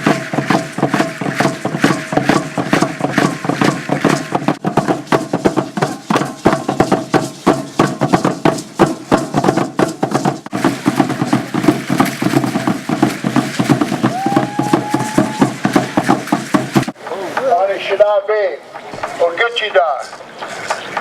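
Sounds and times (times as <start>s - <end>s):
rapid drumming: 0.0s - 17.6s.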